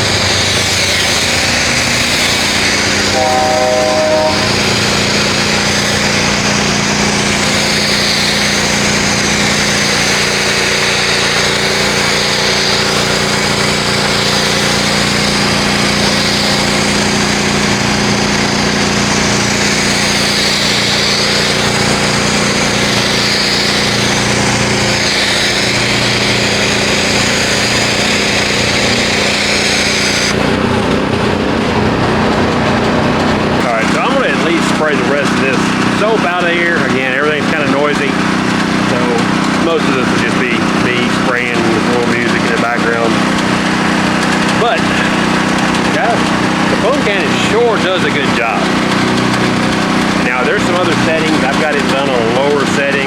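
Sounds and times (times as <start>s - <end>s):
hissing foam spray: 0.0s - 31.4s, 33.6s - 53.0s
pressure washer motor running: 0.0s - 53.0s.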